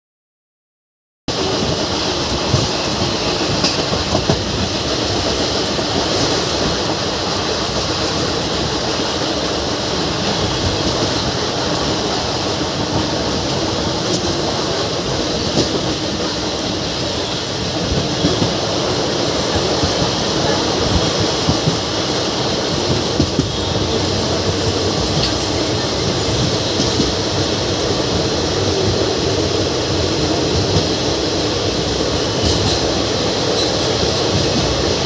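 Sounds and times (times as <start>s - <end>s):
train wheels rumbling on rails: 1.3s - 35.0s.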